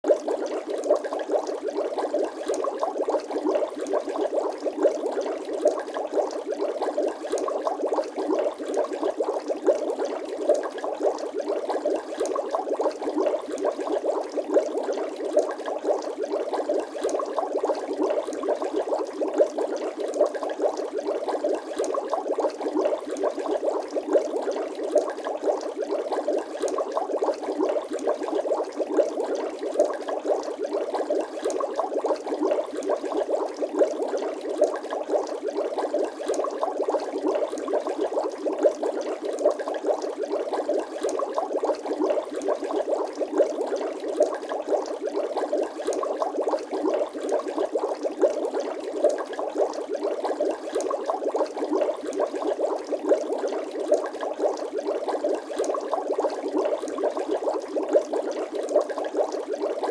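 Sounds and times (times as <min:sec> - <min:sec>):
water bubbles popping: 0:00.0 - 0:59.9.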